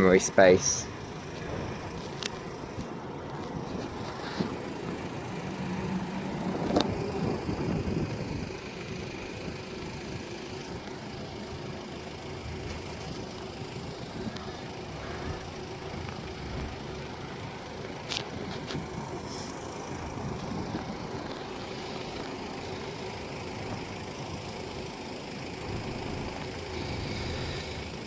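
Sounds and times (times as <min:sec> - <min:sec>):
road traffic: 0:00.0 - 0:28.0
vehicle engine humming: 0:00.0 - 0:28.0.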